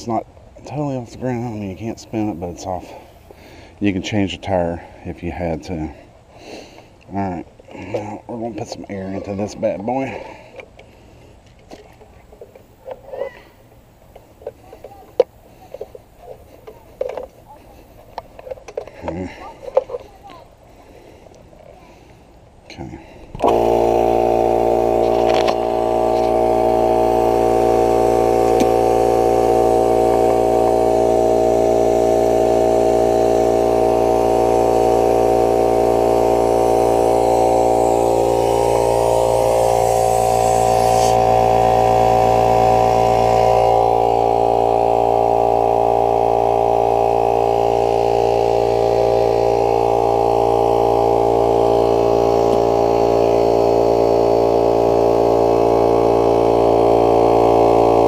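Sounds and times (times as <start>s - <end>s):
electric air compressor running: 1.4s - 4.0s, 7.6s - 22.4s, 23.1s - 58.0s.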